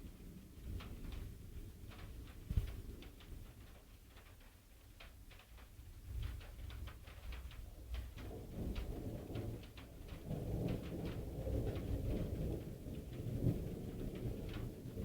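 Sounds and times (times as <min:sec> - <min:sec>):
raindrops on hard surface: 0:00.0 - 0:15.0.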